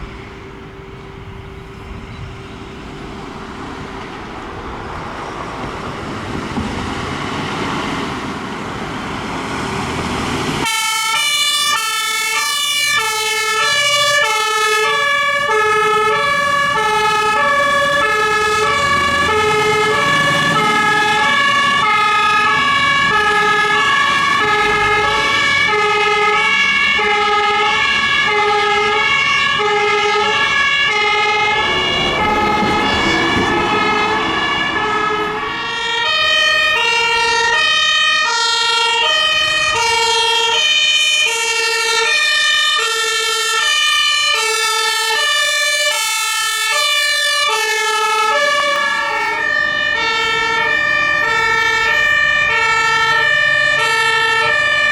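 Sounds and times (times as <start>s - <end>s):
vehicle passing: 0.0s - 11.7s, 12.5s - 42.7s, 43.8s - 54.9s
two-tone fire engine sirens: 0.0s - 54.9s.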